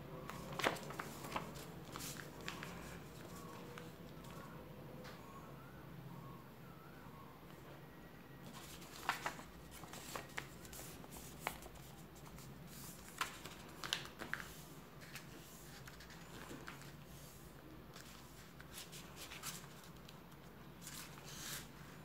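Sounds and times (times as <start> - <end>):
faint steady hum: 0.0 - 22.0
paper folding and crinkling: 0.2 - 4.5, 8.4 - 22.0.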